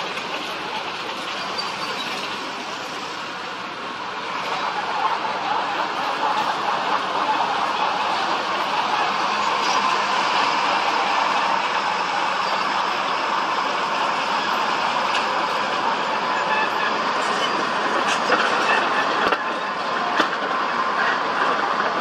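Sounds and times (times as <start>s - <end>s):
heavy construction machinery running: 0.0s - 22.0s.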